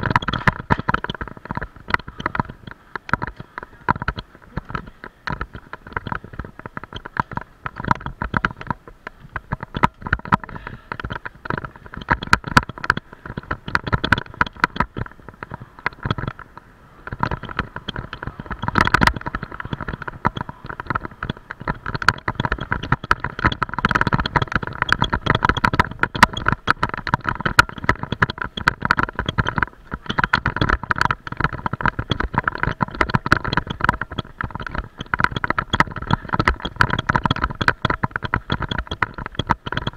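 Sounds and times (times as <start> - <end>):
camera rattling and knocking: 0.0 - 39.9.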